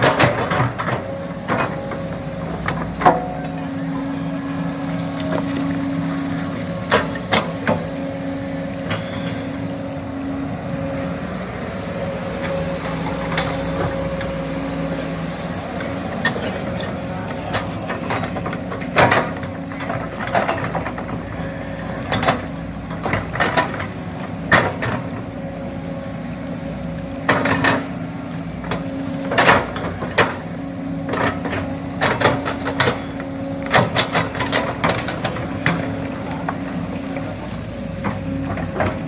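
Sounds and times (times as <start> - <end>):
steady motor hum: 0.0 - 39.0.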